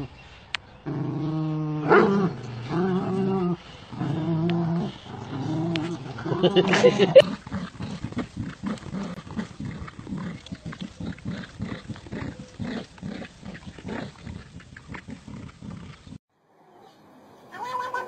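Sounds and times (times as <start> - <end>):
dogs growling in play: 0.8 - 16.2.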